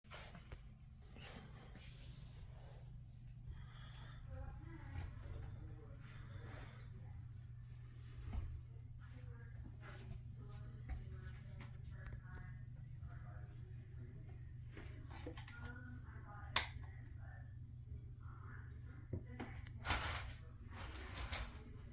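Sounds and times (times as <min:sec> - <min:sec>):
cricket high-pitched trill: 0:00.1 - 0:21.9.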